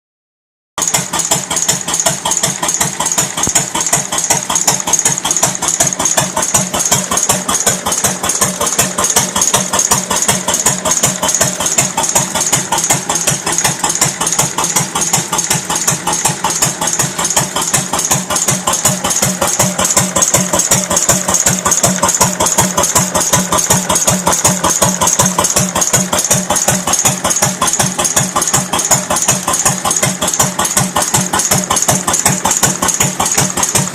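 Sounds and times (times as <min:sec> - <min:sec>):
stationary engine idling: 0:00.8 - 0:33.9.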